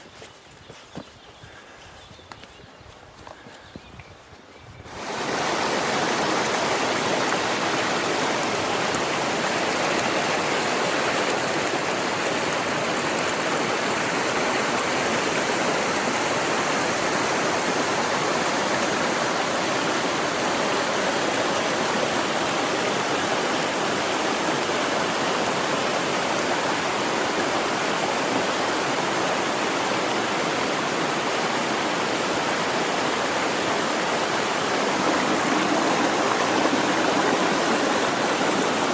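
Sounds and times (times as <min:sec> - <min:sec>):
mountain stream rushing: 0:04.9 - 0:38.9.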